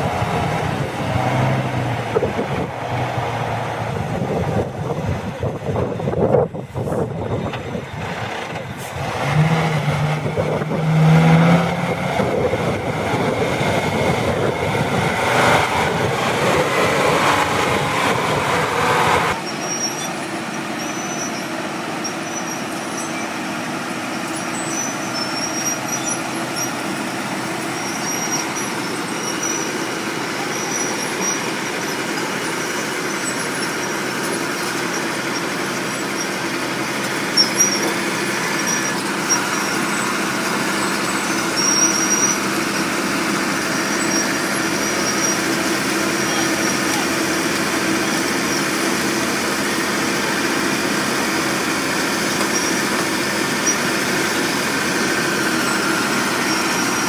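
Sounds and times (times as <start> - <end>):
bulldozer engines droning: 0.0 - 57.0
dump truck diesel engine: 0.0 - 57.0.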